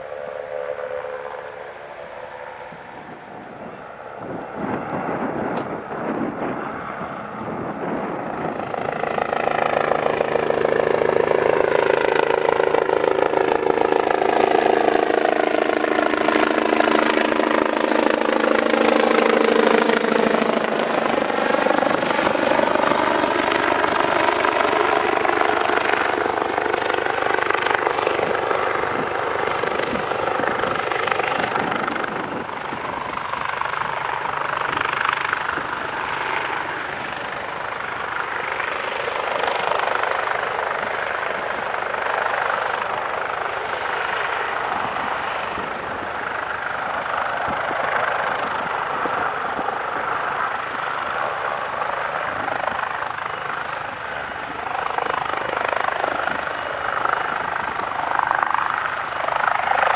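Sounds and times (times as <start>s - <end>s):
helicopter flying low: 0.0s - 59.9s.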